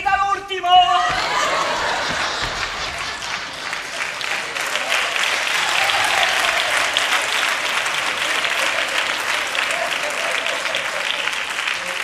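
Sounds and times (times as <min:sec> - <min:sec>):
audience applauding: 0:01.1 - 0:12.0.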